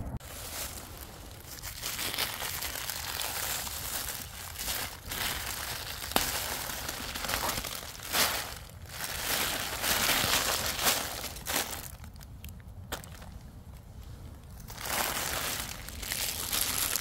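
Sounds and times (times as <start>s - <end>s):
plastic sheet crinkling: 0.2s - 12.3s, 14.6s - 17.0s
dry leaves rustling: 0.2s - 13.4s, 14.1s - 17.0s.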